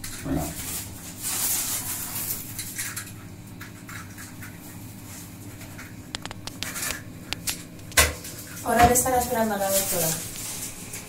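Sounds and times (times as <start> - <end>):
low steady room hum: 0.0 - 11.0.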